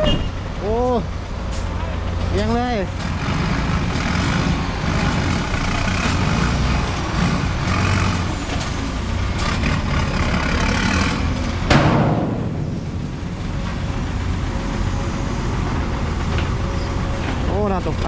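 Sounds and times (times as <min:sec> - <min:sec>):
truck diesel engine running: 0:00.2 - 0:18.0.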